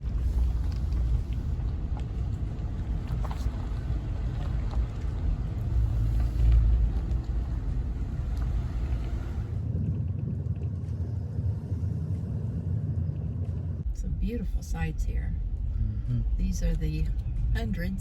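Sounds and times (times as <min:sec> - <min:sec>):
vehicle rumble from inside cab: 0:00.0 - 0:18.0.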